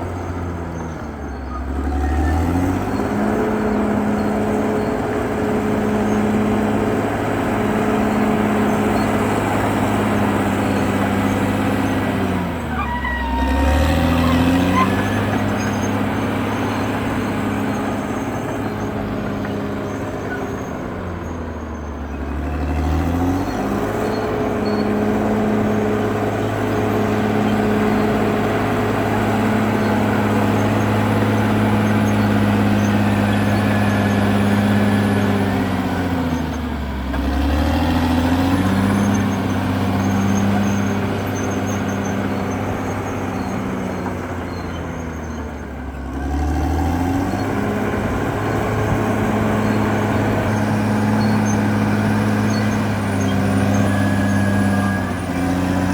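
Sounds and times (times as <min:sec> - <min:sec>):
bulldozer diesel engine under load: 0:00.0 - 0:55.9.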